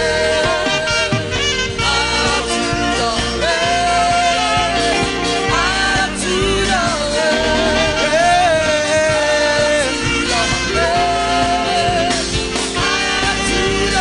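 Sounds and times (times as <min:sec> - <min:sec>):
instrumental accompaniment: 0:00.0 - 0:14.0
singers holding sliding notes: 0:00.0 - 0:14.0.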